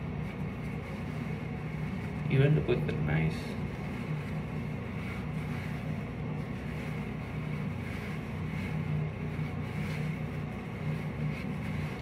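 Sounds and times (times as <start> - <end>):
ventilation fan hum and hiss: 0.0 - 12.0.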